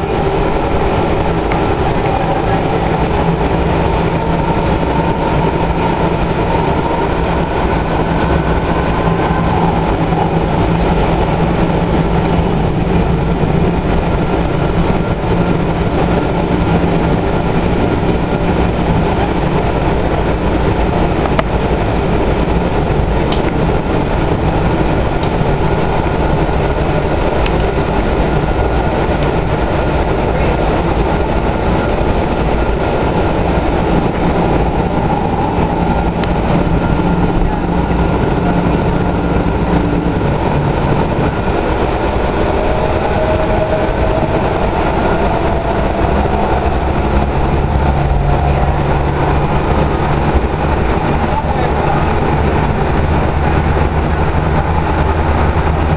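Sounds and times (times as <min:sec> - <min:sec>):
steady hum: 0:00.0 - 0:55.9
wheels rumbling on rail: 0:00.0 - 0:55.9.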